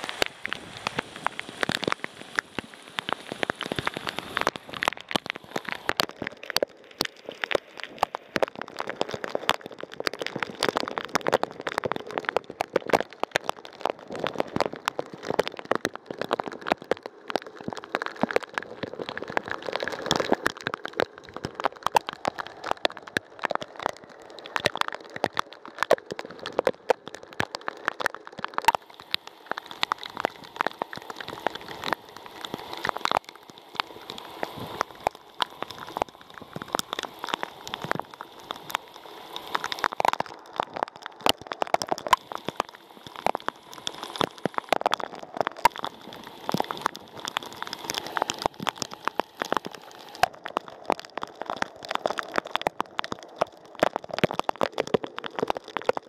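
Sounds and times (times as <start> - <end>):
raindrops hitting hard surface: 0.0 - 56.0.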